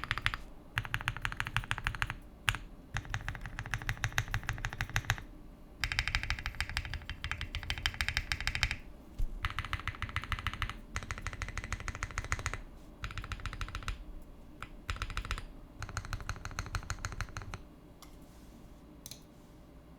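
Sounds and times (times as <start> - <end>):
mechanical keyboard typing: 0.0 - 8.8, 9.4 - 17.6.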